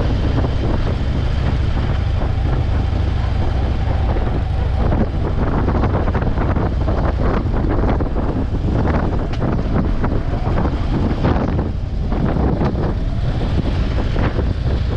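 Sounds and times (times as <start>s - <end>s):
motorcycle engine: 0.0s - 14.9s
road noise: 0.0s - 14.9s
wind buffeting microphone: 0.0s - 14.9s.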